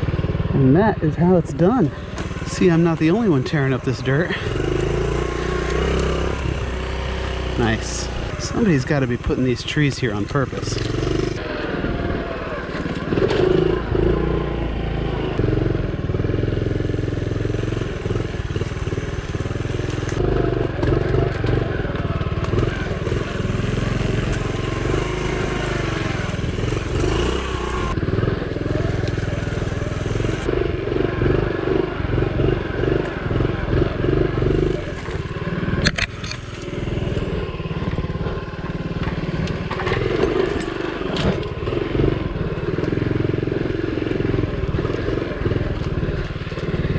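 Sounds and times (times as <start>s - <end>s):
motorbike engine revving: 0.0s - 46.9s.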